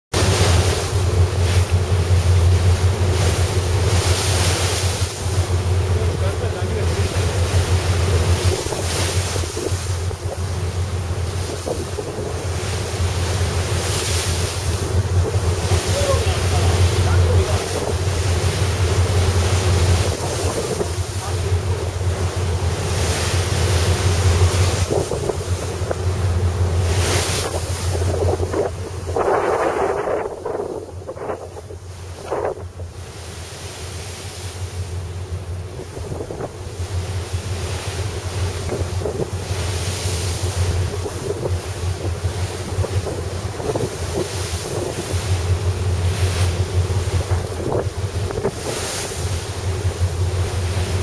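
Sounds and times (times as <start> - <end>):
low engine drone: 0.1 - 51.0
rushing water: 0.1 - 51.0
wind buffeting microphone: 0.3 - 33.1, 35.6 - 51.0.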